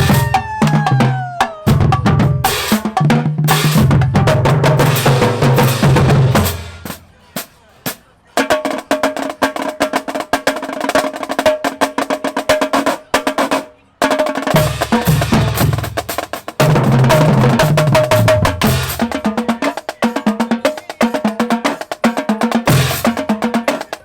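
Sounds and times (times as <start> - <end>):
snare and tenor drums: 0.0 - 24.0.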